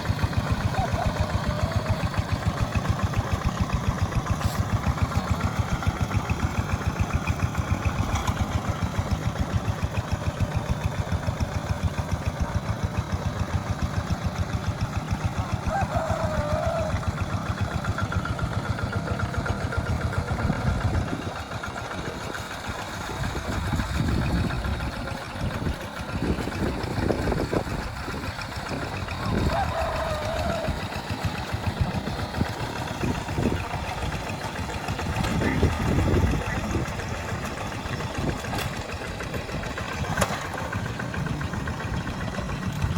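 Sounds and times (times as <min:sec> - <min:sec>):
tractor engine chugging: 0:00.0 - 0:42.9.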